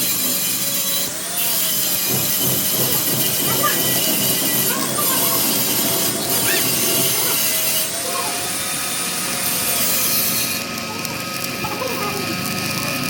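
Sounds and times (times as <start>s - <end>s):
metal being cut or ground: 0.0s - 13.0s.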